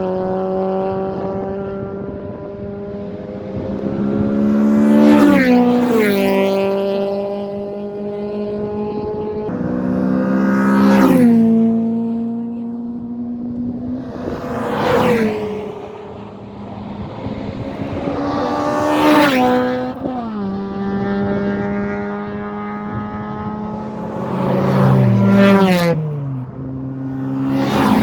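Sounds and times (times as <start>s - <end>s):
race cars passing at speed: 0.0s - 28.0s.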